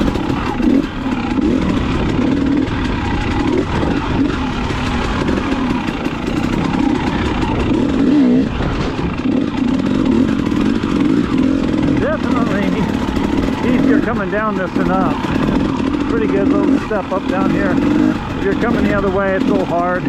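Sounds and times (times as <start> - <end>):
dirt bike engine revving: 0.0 - 20.0
low wind rumble: 0.0 - 20.0.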